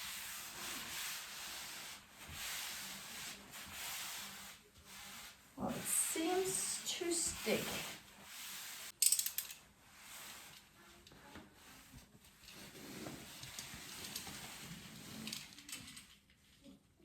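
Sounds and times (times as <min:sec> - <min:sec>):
rustling and scraping of handling: 0:00.0 - 0:17.0.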